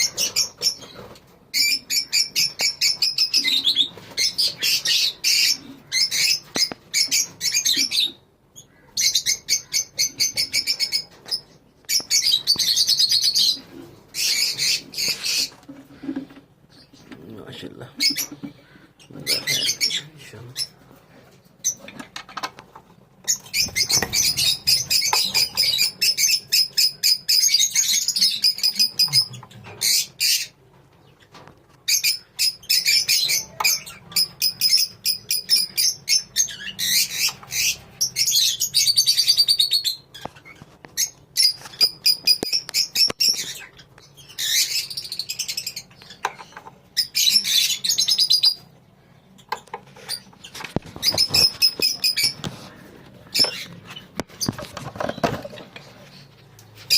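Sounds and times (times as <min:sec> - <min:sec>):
lovebirds twittering and squawking: 0:00.0 - 0:56.9.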